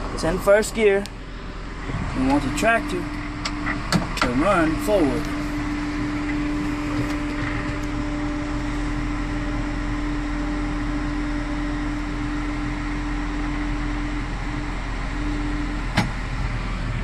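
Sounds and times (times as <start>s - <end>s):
air-conditioning fan rushing: 0.0s - 17.0s
tractor engine running: 0.0s - 17.0s.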